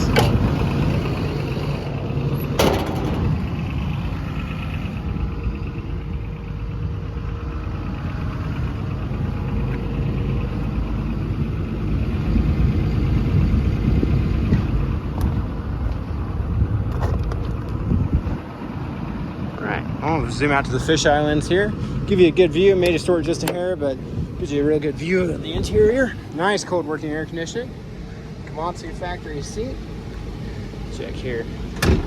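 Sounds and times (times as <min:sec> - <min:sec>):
diesel excavator engine idling: 0:00.0 - 0:32.0.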